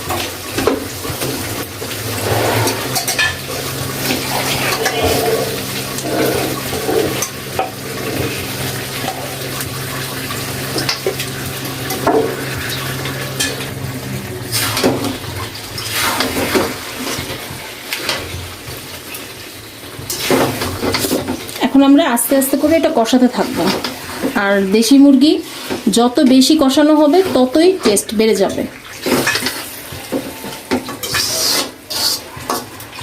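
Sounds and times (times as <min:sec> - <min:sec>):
chicken sizzling in wok: 0:00.0 - 0:33.0.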